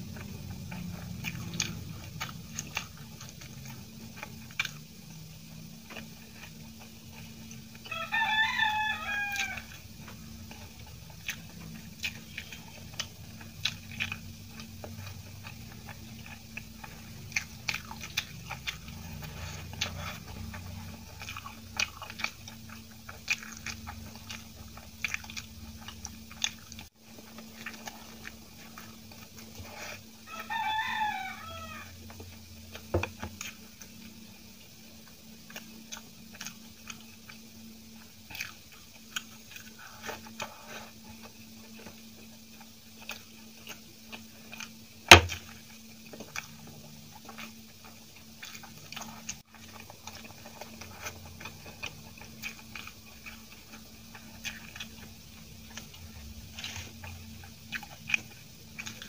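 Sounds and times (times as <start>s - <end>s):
close-miked chewing: 0.0s - 59.0s
steady low hum: 0.0s - 59.0s.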